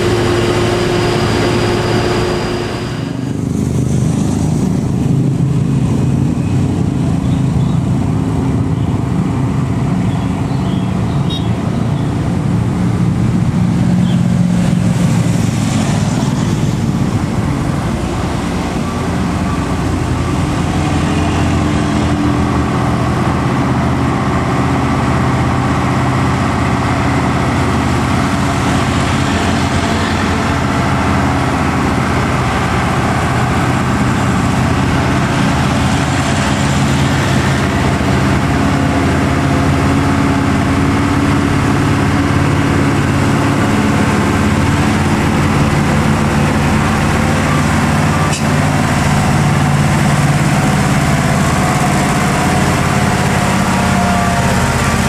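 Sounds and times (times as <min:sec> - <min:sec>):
heavy diesel truck engine: 0:00.0 - 0:55.0.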